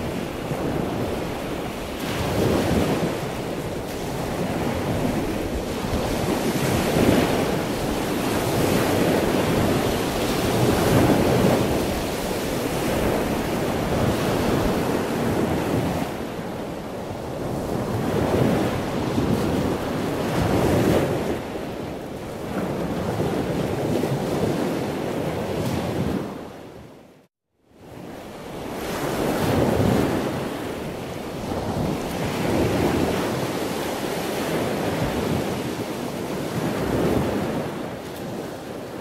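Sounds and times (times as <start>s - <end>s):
rushing sea water: 0.0s - 26.8s, 28.0s - 39.0s
wind buffeting microphone: 0.0s - 26.9s, 27.8s - 39.0s.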